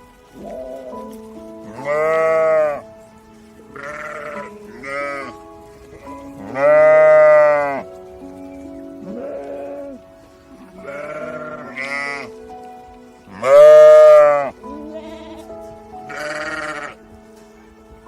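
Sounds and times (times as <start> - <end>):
background music: 0.0 - 18.0
farm animal bleating: 0.4 - 2.9, 3.6 - 12.4, 13.3 - 17.1.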